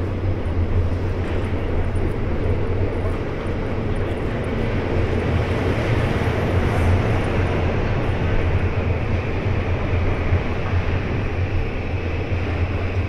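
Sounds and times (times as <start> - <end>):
city traffic and trains rumble: 0.0 - 13.0.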